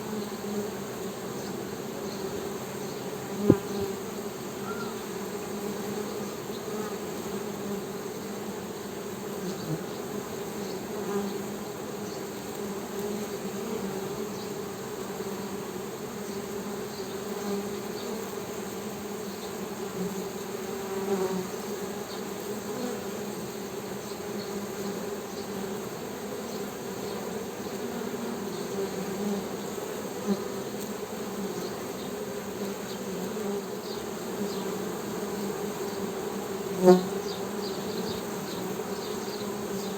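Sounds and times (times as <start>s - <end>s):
honey bees humming: 0.0s - 39.9s.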